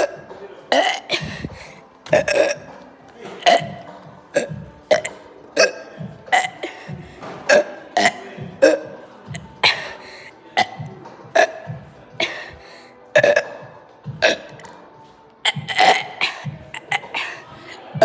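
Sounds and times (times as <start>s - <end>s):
person burping: 0.0s - 2.7s, 3.4s - 6.9s, 7.5s - 14.7s, 15.4s - 17.4s.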